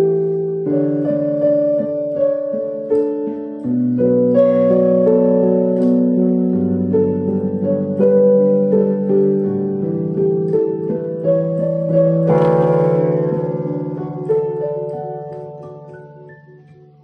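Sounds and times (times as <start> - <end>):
slow instrumental melody: 0.0 - 17.0.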